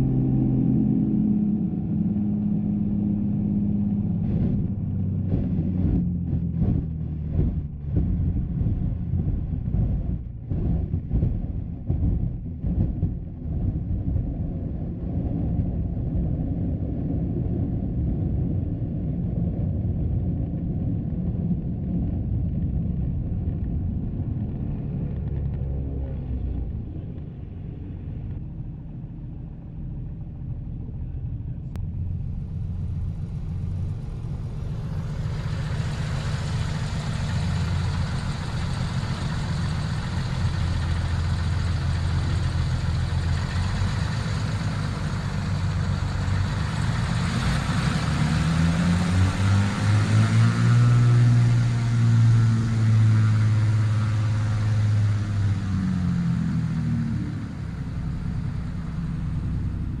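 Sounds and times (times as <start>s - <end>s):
propeller plane engine running: 0.0s - 60.0s.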